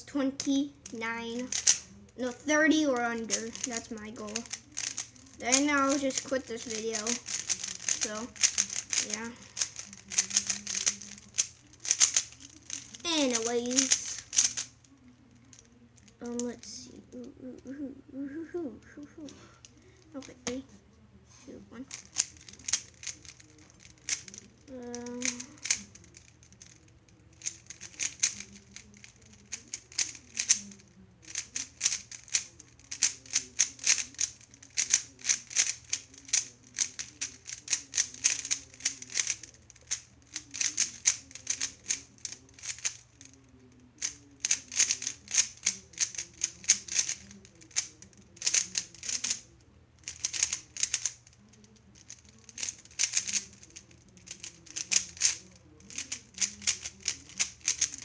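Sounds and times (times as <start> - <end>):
plastic puzzle cube being turned: 0.4 - 16.7, 21.8 - 58.0.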